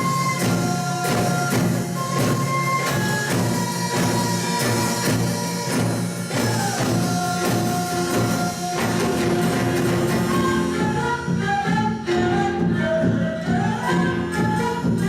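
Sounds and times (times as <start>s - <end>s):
steady percussion beat: 0.0s - 15.0s
traditional music ensemble: 0.0s - 15.0s.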